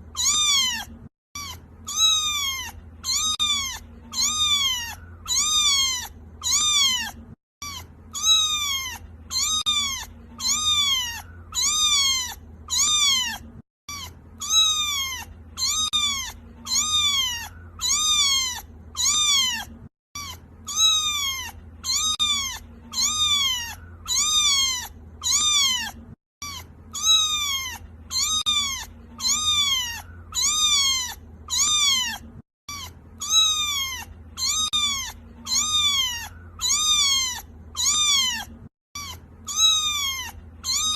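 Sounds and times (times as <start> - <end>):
kitten meowing: 0.0 - 40.9.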